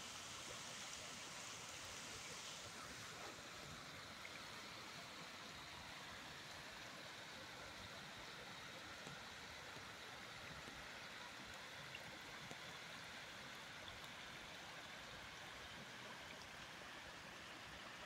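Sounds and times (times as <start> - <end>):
water running over stone steps: 0.0 - 18.0.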